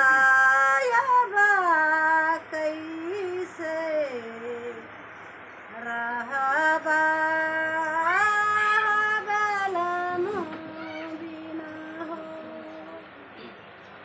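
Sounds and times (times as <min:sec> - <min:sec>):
woman singing folk song: 0:00.0 - 0:04.9, 0:05.7 - 0:13.1.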